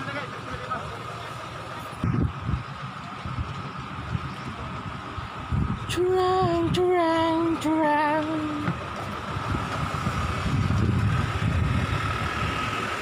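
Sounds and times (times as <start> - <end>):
wind rumble on microphone: 2.0 - 13.0.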